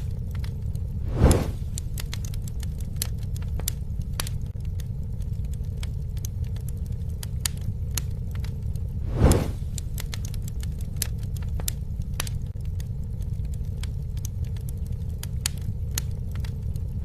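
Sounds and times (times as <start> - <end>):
campfire popping and snapping: 0.0 - 17.0.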